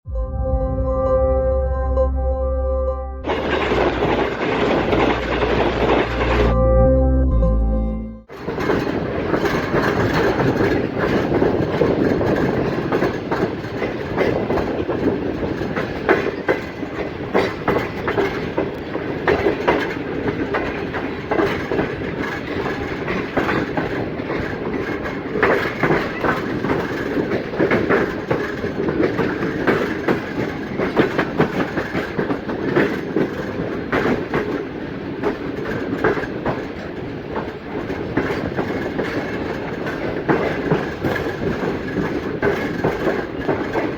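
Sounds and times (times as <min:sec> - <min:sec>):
train rumble: 0:00.0 - 0:07.6, 0:08.3 - 0:43.9
train wheels clacking over rail joints: 0:08.3 - 0:43.9.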